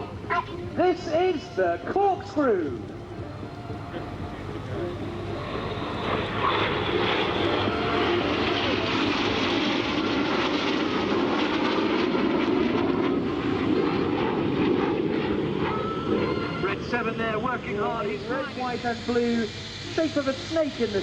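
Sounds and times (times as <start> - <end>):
jets flying overhead: 0.0 - 21.0.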